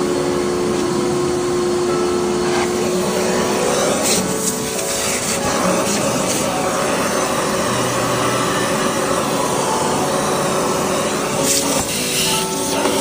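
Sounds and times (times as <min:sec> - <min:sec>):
steady rushing machine noise: 0:00.0 - 0:13.0.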